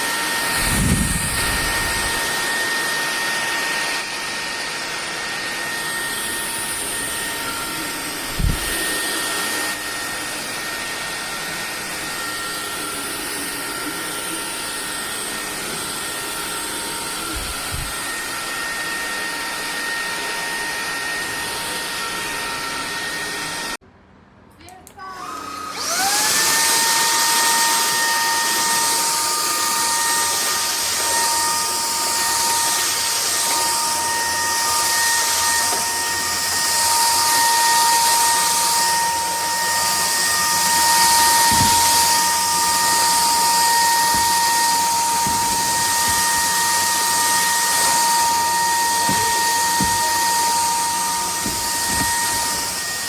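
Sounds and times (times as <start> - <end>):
stick vacuum motor whine: 0.0 - 23.8, 25.2 - 53.0.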